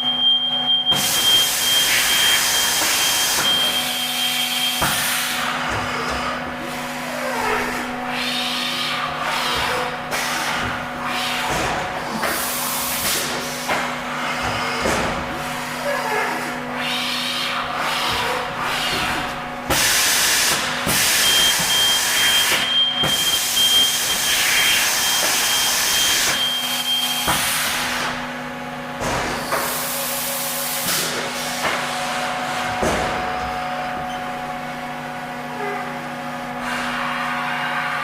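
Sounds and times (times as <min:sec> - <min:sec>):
machine low hum: 0:00.0 - 0:38.0.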